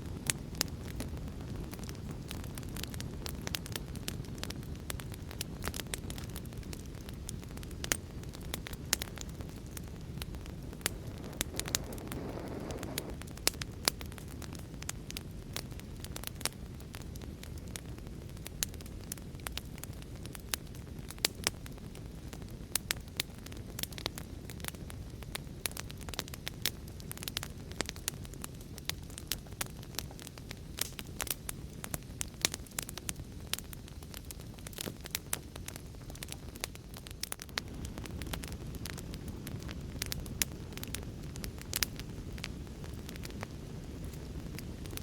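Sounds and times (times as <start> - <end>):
fire crackling and popping: 0.0 - 45.0
hissing flame: 0.0 - 45.0.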